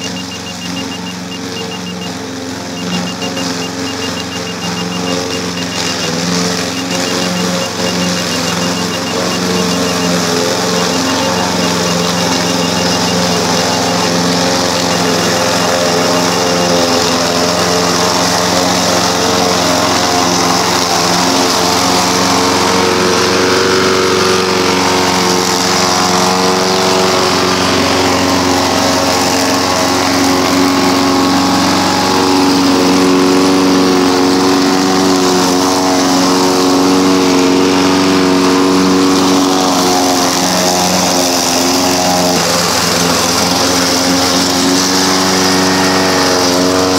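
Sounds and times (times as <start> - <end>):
lawn mower cutting grass: 0.0 - 46.9.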